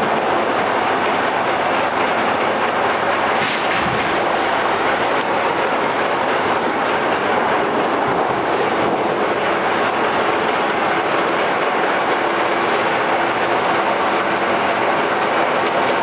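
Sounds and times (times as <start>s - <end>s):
roll-forming machine running: 0.0s - 16.0s.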